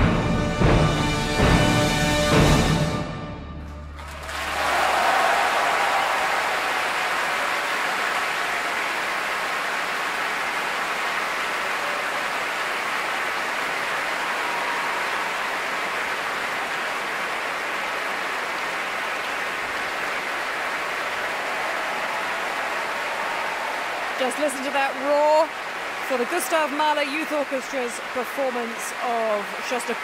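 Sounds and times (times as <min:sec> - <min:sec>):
large audience applauding: 0:03.9 - 0:30.0.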